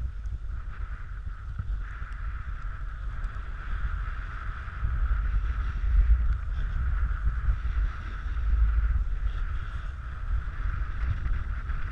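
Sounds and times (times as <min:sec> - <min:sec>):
snowboard sliding over snow: 0:00.0 - 0:11.9
wind buffeting microphone: 0:00.0 - 0:11.9.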